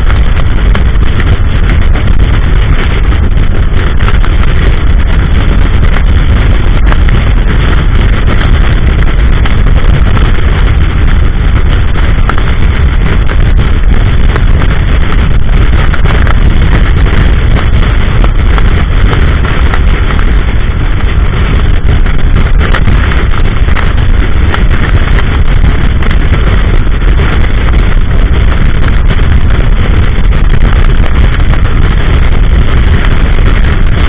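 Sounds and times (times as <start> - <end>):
blizzard wind buffeting microphone: 0.0 - 34.0.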